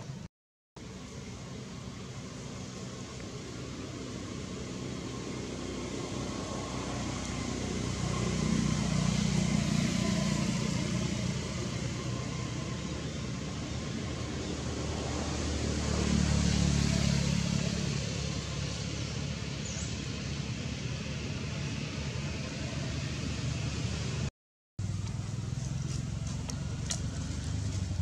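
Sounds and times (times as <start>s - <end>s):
vehicle engine hum: 0.0s - 28.0s.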